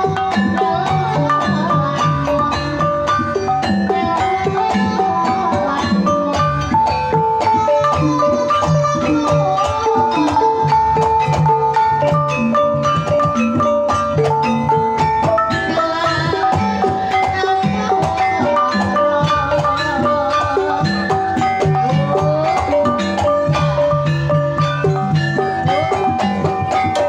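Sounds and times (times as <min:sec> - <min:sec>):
hand drumming: 0:00.0 - 0:27.0.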